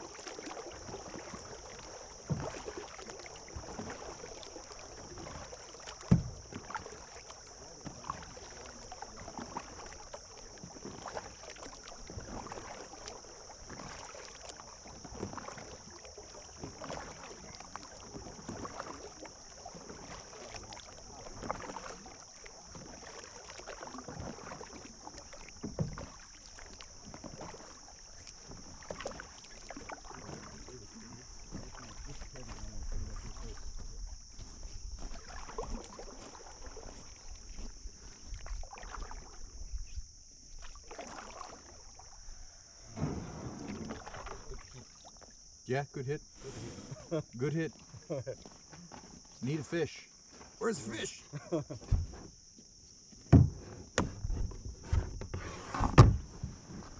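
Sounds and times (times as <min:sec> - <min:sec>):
paddle splashing in water: 0:00.0 - 0:56.9.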